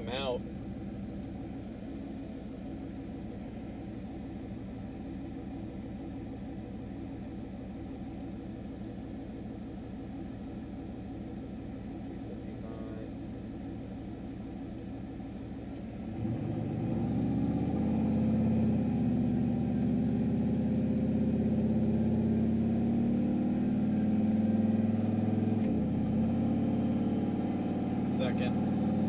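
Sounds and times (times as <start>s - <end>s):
pickup engine and exhaust: 0.0s - 29.0s.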